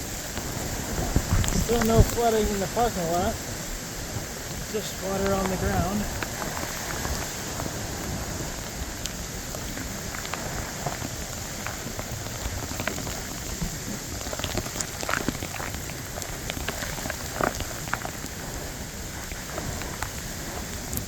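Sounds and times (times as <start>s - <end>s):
heavy rain splashing on ground: 0.0s - 21.0s.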